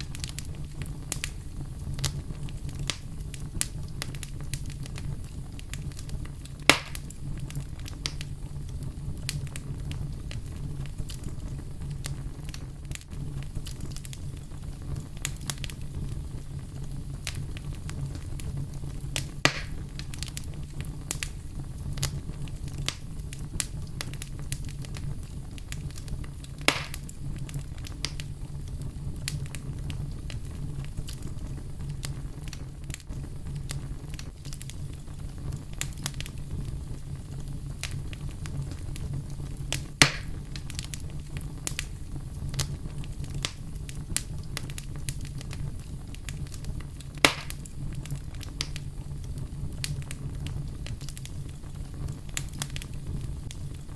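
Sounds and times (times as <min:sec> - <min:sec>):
loud pops of fire: 0:00.0 - 0:53.9
wood fire crackling: 0:00.0 - 0:53.9.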